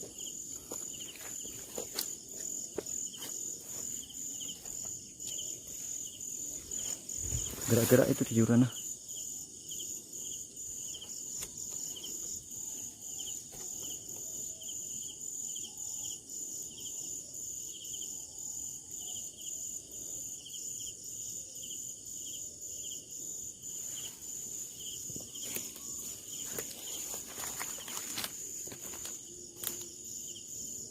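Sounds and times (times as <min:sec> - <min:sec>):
insects shrilling and chirping: 0:00.0 - 0:30.9.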